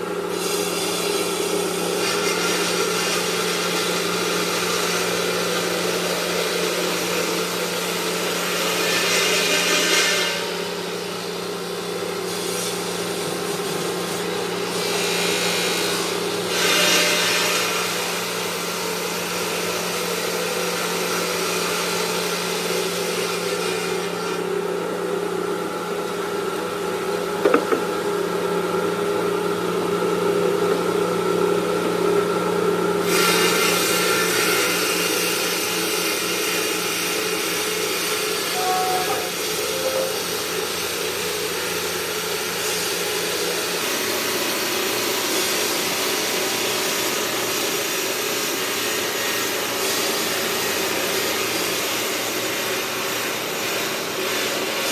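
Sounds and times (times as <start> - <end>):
grinding hiss: 0.0 - 54.9
stone-working machinery humming: 0.0 - 54.9.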